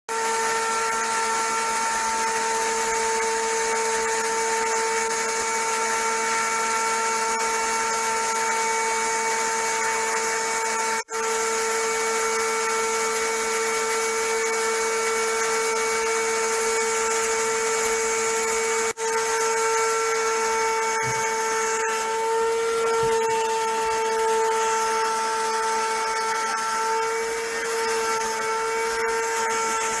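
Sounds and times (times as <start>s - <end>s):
vacuum cleaner motor whining: 0.1s - 30.0s.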